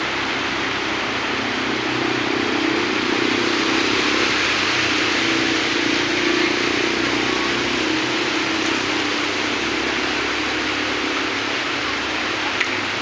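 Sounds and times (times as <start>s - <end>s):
car and motorcycle engines: 0.0s - 13.0s
hiss of water: 0.0s - 13.0s.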